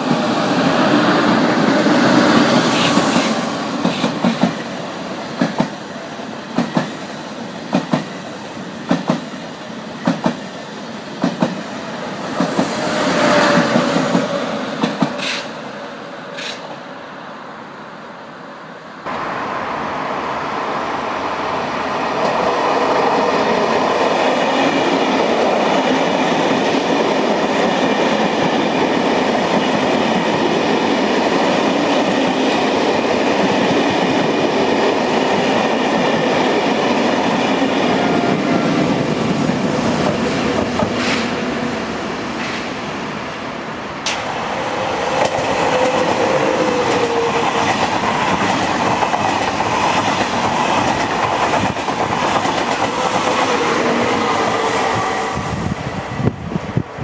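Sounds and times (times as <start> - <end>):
high-speed train wheels clacking: 0.0 - 16.8, 19.0 - 57.0
passenger train rumbling by: 0.0 - 57.0.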